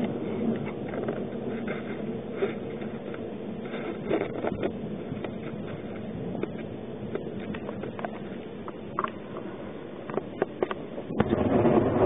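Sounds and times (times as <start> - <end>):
low rumble of distant combat: 0.0 - 12.0.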